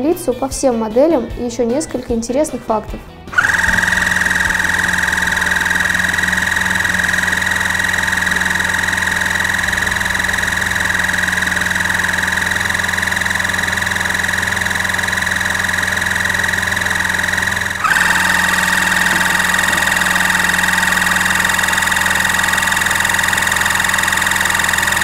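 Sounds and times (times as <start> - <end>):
pump droning with whine: 3.3 - 25.0.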